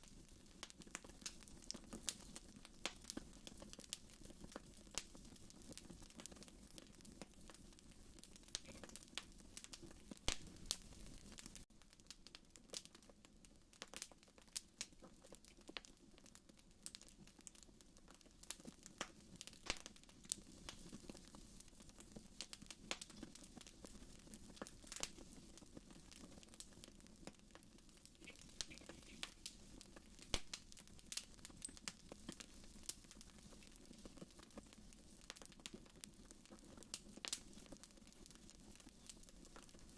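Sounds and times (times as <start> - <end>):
fire pops and snaps: 0.0 - 39.9.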